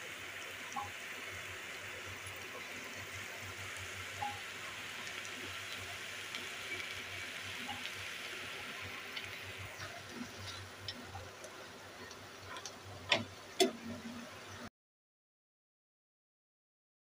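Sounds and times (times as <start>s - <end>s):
vegetables sizzling in a pan: 0.0s - 14.7s.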